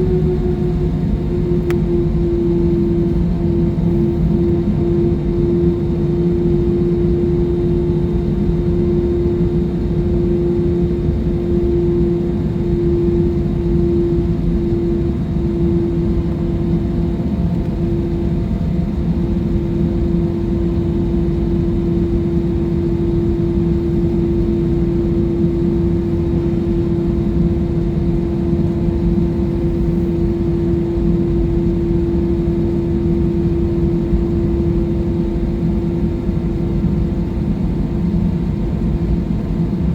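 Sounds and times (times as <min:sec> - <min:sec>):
constant hum-like tone: 0:00.0 - 0:39.9
jet engine drone in cabin: 0:00.0 - 0:39.9.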